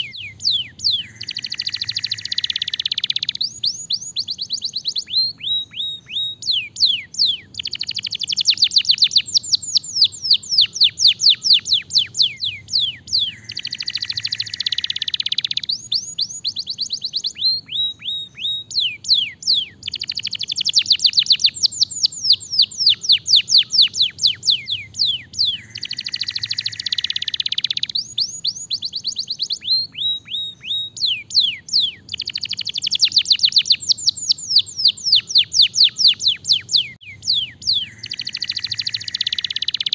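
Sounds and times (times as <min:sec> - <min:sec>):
buzzy roll of canary song: 0:00.0 - 0:39.9
canary singing: 0:00.0 - 0:39.9.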